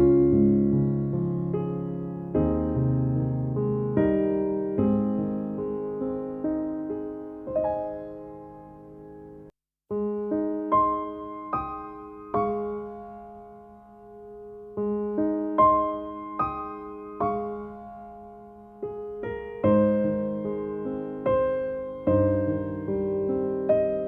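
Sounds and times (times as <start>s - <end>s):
slow solo piano: 0.0s - 24.0s.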